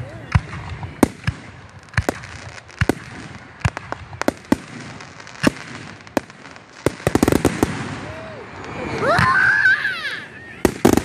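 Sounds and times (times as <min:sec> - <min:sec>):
fireworks bursting: 0:00.2 - 0:11.0.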